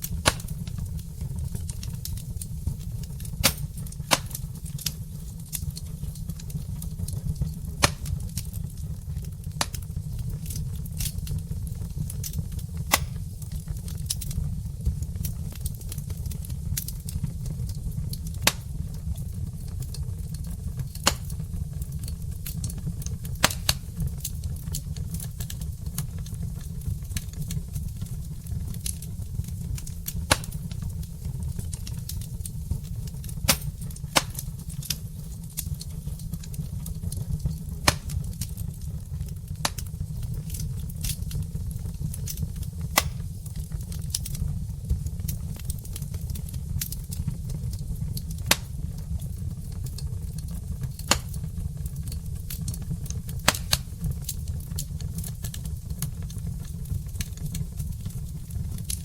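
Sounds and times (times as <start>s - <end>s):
log fire crackling: 0.0s - 59.0s
low rumble of fire: 0.0s - 59.0s
sharp pops from fire: 0.0s - 59.0s.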